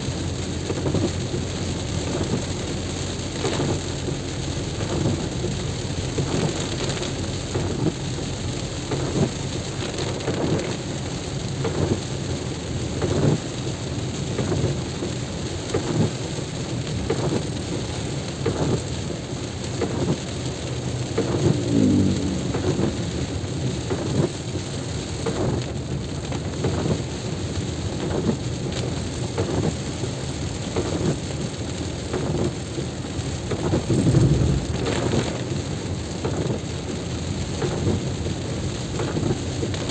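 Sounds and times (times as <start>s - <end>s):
heavy rain drops pattering: 0.0s - 39.9s
low rain rumble: 0.0s - 39.9s.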